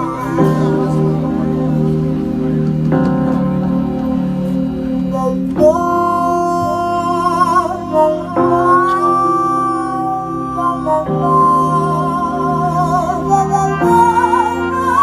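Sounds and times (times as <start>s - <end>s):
live band sustained chords: 0.0s - 15.0s
wavering held melody line: 0.0s - 15.0s.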